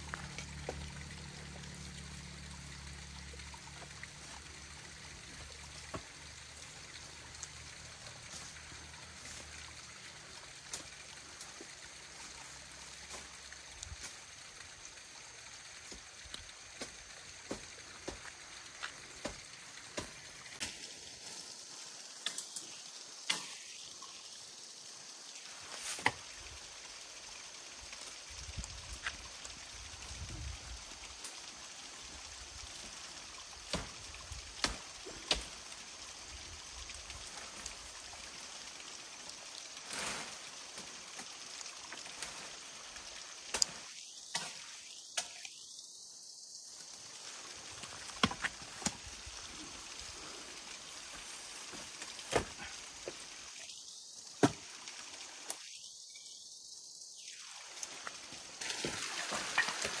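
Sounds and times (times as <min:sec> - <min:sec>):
running water hiss: 0:00.0 - 1:00.0.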